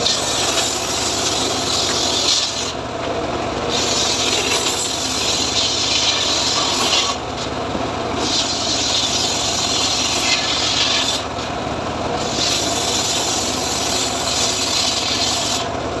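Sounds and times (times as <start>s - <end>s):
circular saw ripping wood: 0.0s - 2.8s, 3.6s - 11.6s, 12.2s - 15.8s
saw machine hum: 0.0s - 16.0s.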